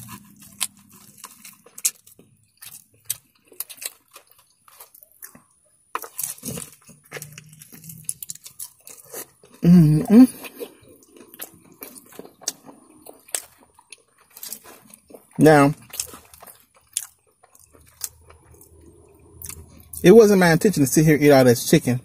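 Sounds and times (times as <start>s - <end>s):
crunching and smacking chewing: 0.0s - 20.1s.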